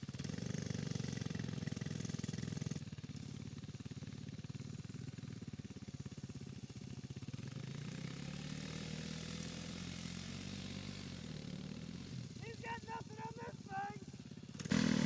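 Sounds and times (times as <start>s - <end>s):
distant off-road bike engines: 0.0s - 15.0s.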